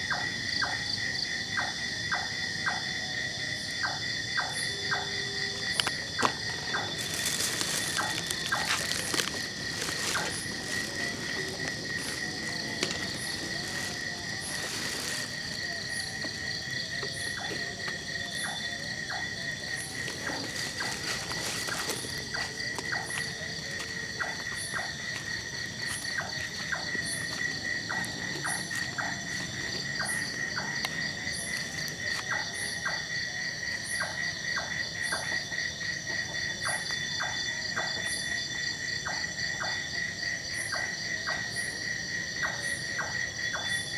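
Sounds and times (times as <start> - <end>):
crickets trilling: 0.0 - 43.9
high insect chirp: 0.0 - 43.9.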